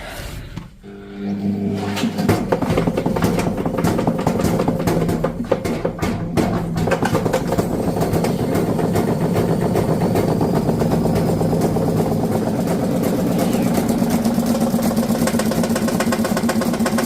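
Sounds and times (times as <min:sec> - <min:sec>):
washing machine running: 0:00.0 - 0:17.0
washing machine rattling: 0:02.0 - 0:17.0.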